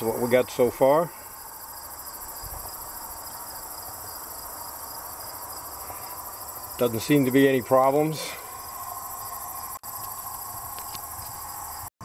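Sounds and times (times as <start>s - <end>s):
insect chorus chirping: 0.0s - 11.9s.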